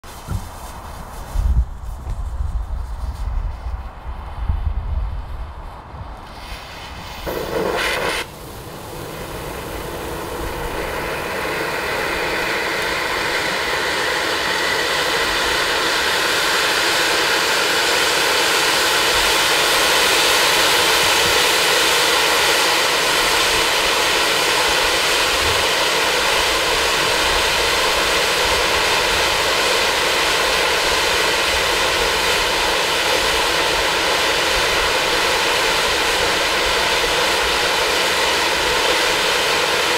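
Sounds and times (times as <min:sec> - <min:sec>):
firework fountain hissing sparks: 0:00.0 - 0:03.8, 0:06.1 - 0:39.9
firework burst: 0:06.2 - 0:39.9.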